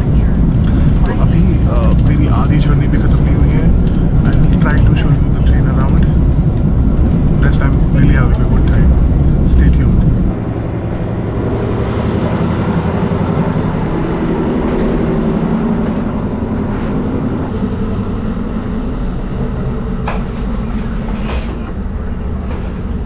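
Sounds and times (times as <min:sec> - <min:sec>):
train rumble from inside car: 0:00.0 - 0:23.0.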